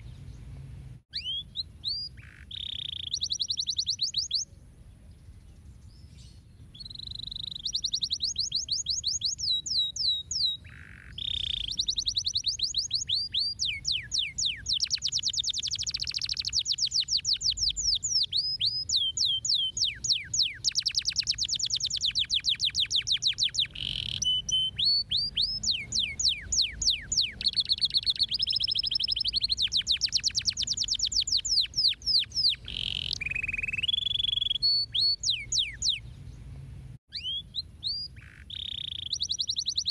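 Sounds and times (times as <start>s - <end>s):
canary singing trills: 1.1s - 36.5s, 37.1s - 39.9s.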